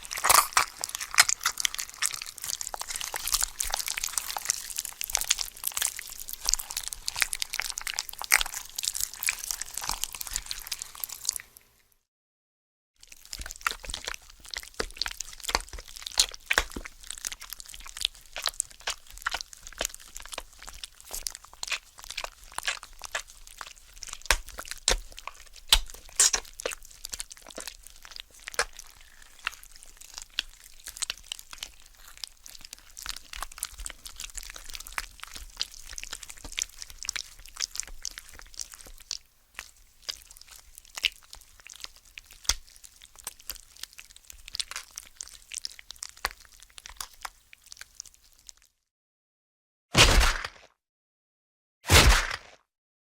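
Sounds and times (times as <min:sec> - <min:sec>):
cartoon gore crunching and tearing: 0:00.0 - 0:11.7, 0:13.0 - 0:48.7, 0:50.0 - 0:50.7, 0:51.9 - 0:52.6.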